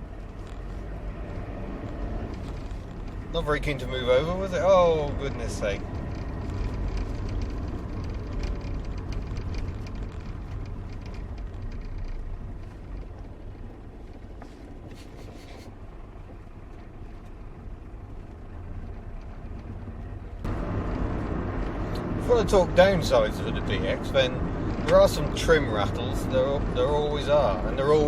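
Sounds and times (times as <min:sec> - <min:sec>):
diesel car engine rumble: 0:00.0 - 0:28.0
tyres running on road: 0:00.0 - 0:28.0.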